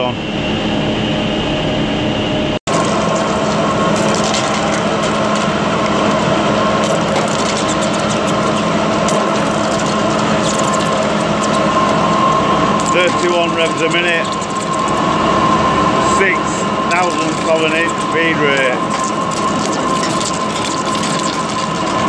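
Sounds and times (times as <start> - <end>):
lathe machining noise: 2.7 - 22.0.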